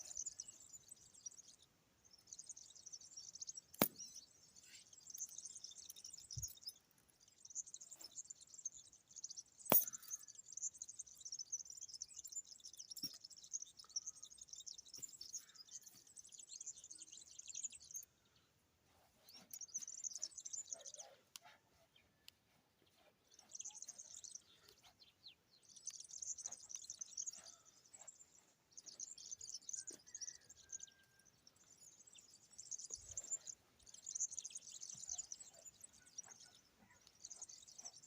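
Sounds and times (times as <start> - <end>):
small birds twittering: 0.0 - 38.0.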